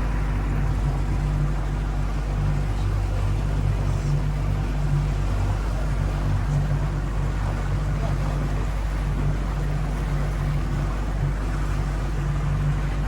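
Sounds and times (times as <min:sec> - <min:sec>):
motorboat engine drone: 0:00.0 - 0:13.0
water rushing: 0:00.0 - 0:13.0.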